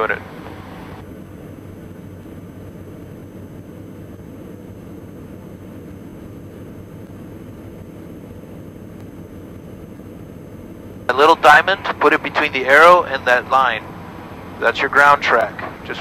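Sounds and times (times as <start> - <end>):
aircraft cockpit engine drone: 0.0 - 16.0
low hum: 0.0 - 16.0
propeller noise: 0.0 - 16.0.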